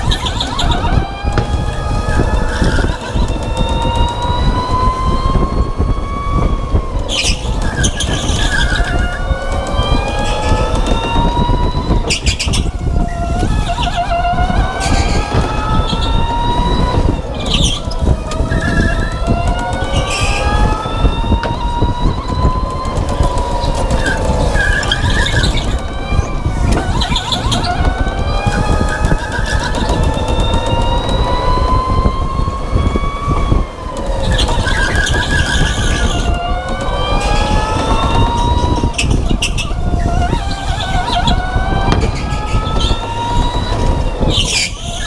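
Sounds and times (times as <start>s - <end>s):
go-kart motor whining: 0.0s - 45.0s.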